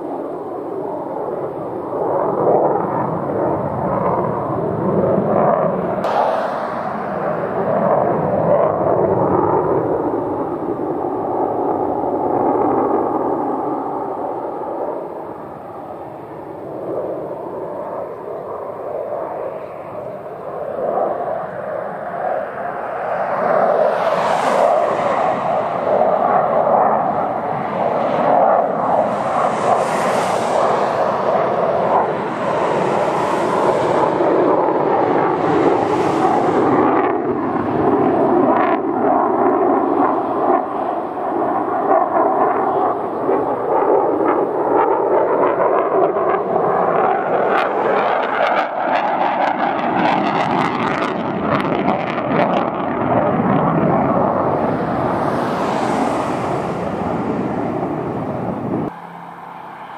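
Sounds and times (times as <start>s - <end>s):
jet engine afterburner roar: 0.0s - 59.9s.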